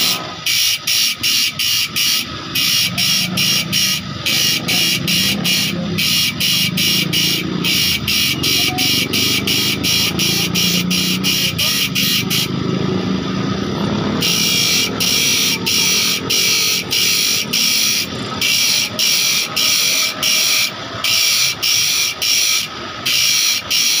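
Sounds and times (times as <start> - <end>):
grinder rasping on saw teeth: 0.0 - 12.6, 14.2 - 24.0
grinder motor running: 0.0 - 24.0.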